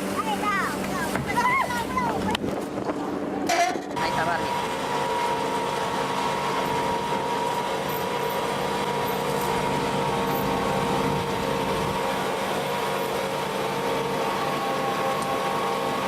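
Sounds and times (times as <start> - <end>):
ship machinery humming: 0.0 - 16.0.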